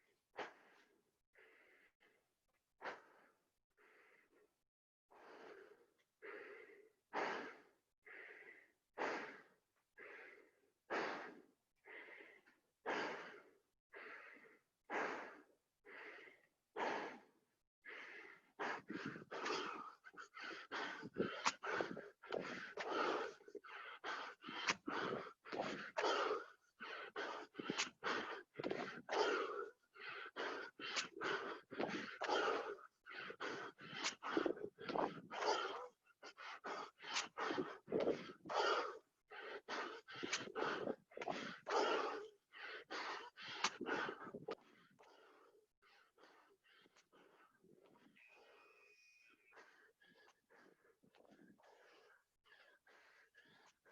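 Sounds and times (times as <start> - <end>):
man breathing hard: 0.0 - 53.9.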